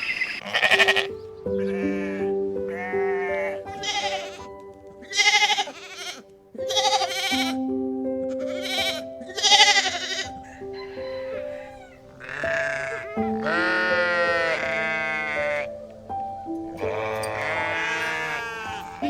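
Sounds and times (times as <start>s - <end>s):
animal bleating: 0.0s - 7.6s, 8.2s - 15.9s, 16.6s - 19.0s
soft instrumental music: 0.4s - 19.0s.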